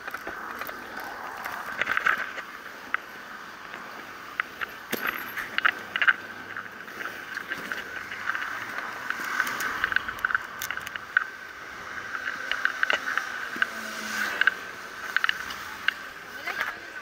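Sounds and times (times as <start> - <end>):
camera rolling along paved street: 0.0 - 17.0
sharp rattles and clicks: 0.0 - 17.0.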